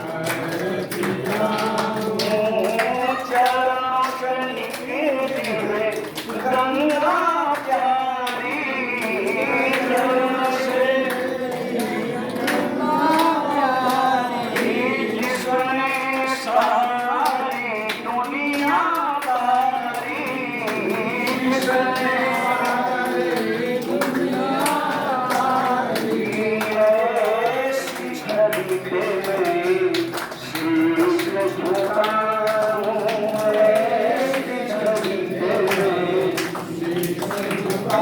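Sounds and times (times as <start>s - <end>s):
voices singing devotional song: 0.0s - 38.0s.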